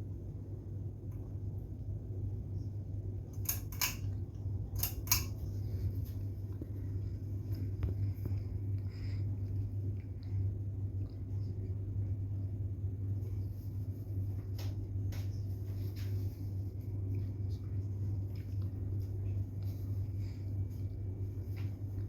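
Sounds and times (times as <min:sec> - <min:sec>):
ceiling fan motor humming: 0:00.0 - 0:22.0.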